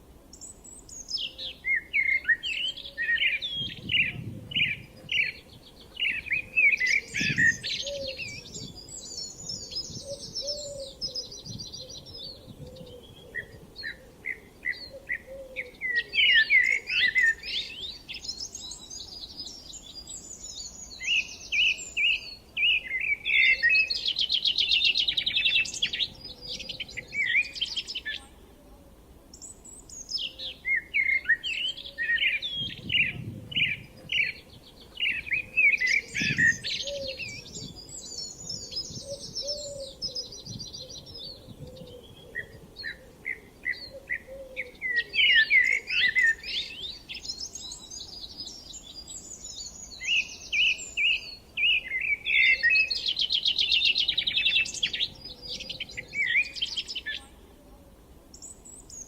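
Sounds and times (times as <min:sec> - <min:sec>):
faint outdoor background: 0:00.0 - 0:59.0
songbirds chirping and trilling: 0:00.0 - 0:59.0.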